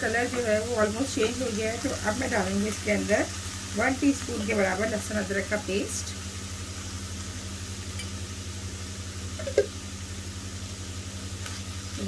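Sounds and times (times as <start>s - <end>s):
meat sizzling in oil: 0.0s - 12.0s
steady low hum: 0.0s - 12.0s.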